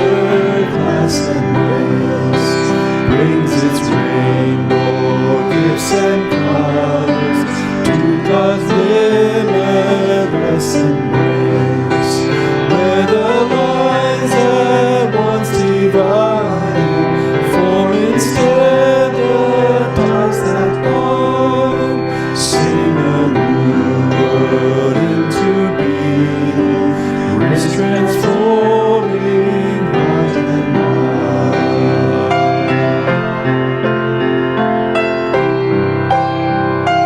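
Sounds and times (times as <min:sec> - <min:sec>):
person singing hymn: 0:00.0 - 0:34.0
piano accompaniment: 0:00.0 - 0:37.0.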